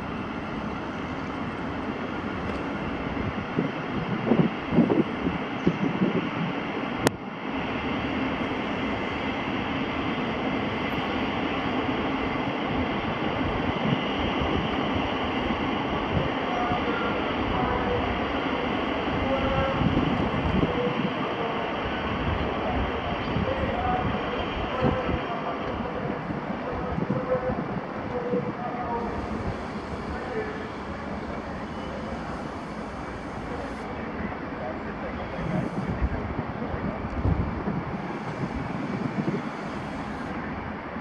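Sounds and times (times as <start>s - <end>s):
distant jet engines droning: 0.0s - 41.0s.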